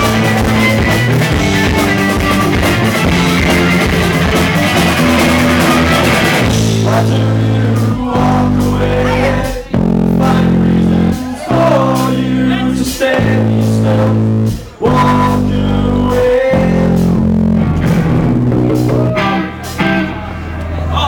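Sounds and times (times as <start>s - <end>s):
person singing: 0.0s - 17.5s
live rock band playing: 0.0s - 21.0s.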